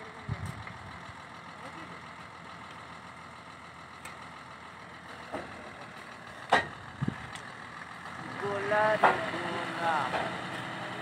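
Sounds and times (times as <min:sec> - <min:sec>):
drilling rig engine running: 0:00.0 - 0:11.0.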